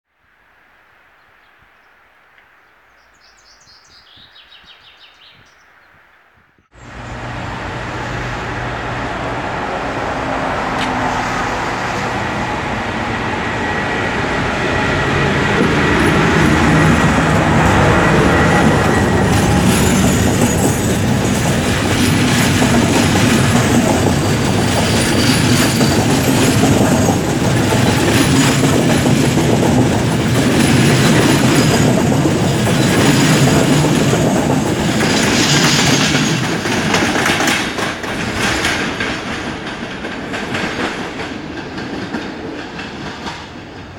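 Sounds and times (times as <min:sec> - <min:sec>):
passenger train passing: 0:06.7 - 0:43.9
wheels clacking over rail joints: 0:06.8 - 0:43.9.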